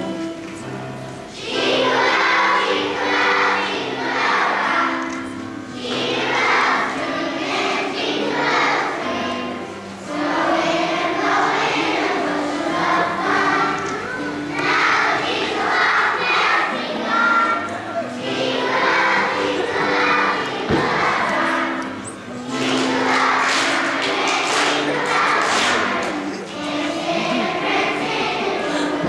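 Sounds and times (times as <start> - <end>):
children's choir singing: 0.0 - 29.0
instrumental accompaniment: 0.0 - 29.0.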